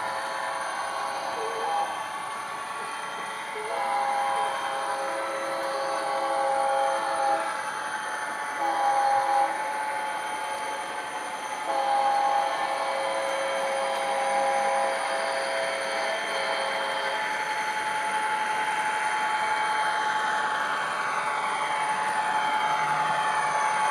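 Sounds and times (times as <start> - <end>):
diesel locomotive engine running: 0.0 - 23.9.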